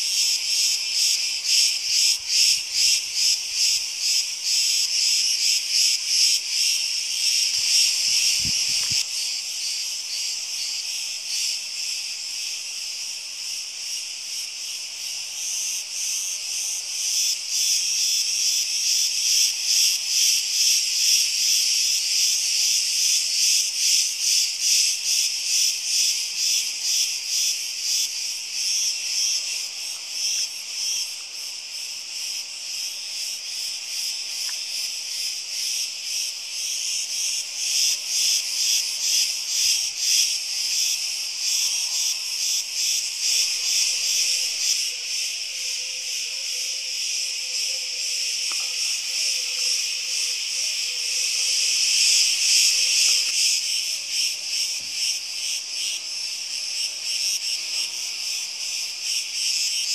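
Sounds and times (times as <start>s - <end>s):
cicada buzzing: 0.0s - 59.9s.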